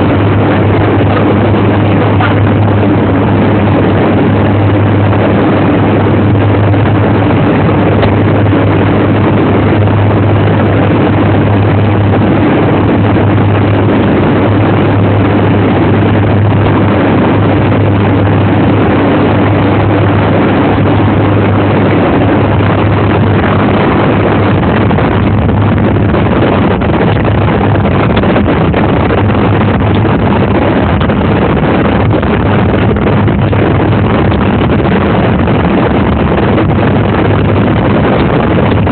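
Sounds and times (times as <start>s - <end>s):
engine drone: 0.0s - 38.9s
higher hum: 0.0s - 38.9s
rushing noise: 0.0s - 38.9s.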